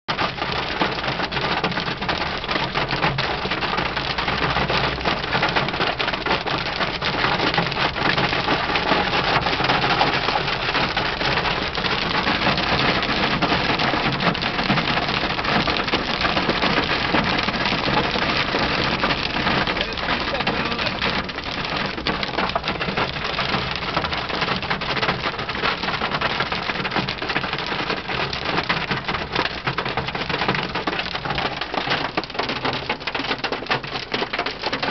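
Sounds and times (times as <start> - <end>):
hail and rain on car roof: 0.1 - 34.9.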